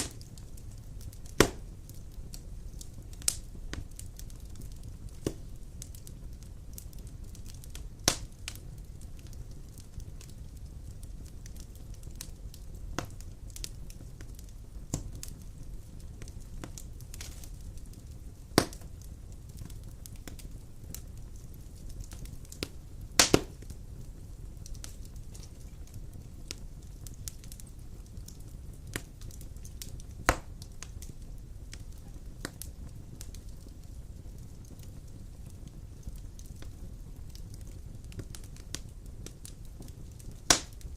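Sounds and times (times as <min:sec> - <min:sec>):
fire crackling: 0:00.0 - 0:40.9
fire flames rumbling: 0:00.0 - 0:40.9
sharp pops from fire: 0:00.0 - 0:40.9.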